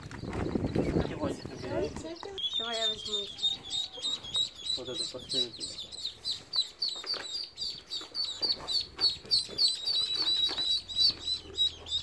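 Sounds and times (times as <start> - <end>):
ducklings and chicks peeping: 0.0 - 12.0.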